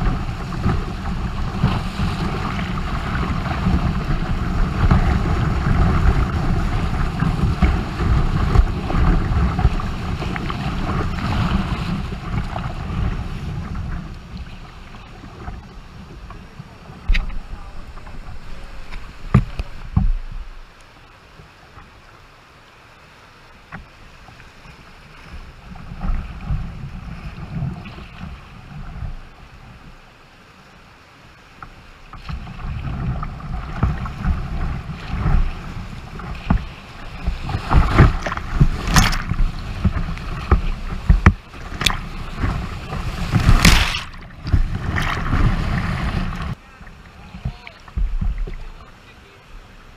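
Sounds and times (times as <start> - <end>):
heavy wave splashes: 0.0 - 22.2, 22.8 - 49.9.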